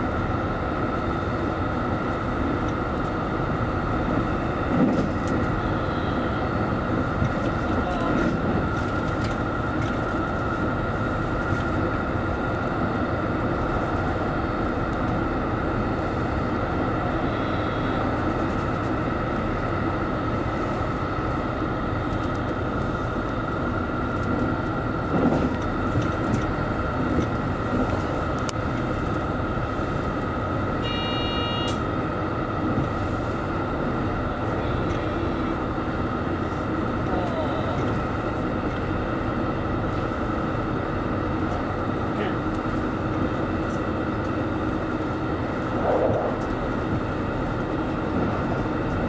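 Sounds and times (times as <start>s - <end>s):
constant whine: 0.0s - 49.0s
diesel engine drone: 0.0s - 49.0s
wheels rumbling on rail: 0.0s - 49.0s.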